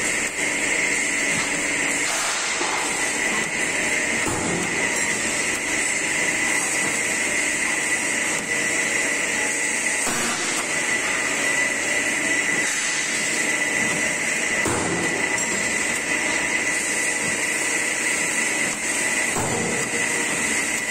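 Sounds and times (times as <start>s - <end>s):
hydraulic machine humming and whining: 0.0s - 20.9s.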